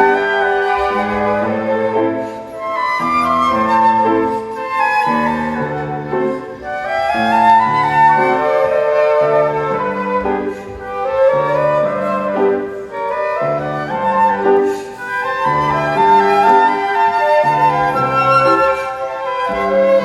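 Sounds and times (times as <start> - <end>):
flute ensemble playing slow melody: 0.0 - 20.0.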